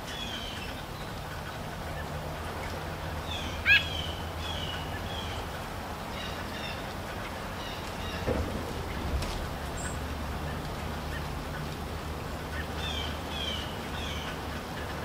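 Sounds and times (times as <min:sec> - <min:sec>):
rain hiss: 0:00.0 - 0:15.0
songbirds chirping: 0:00.0 - 0:15.0.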